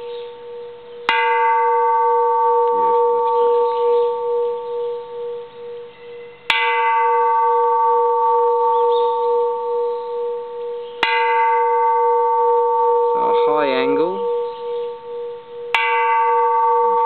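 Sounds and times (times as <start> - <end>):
temple bell ringing: 0.0 - 17.0.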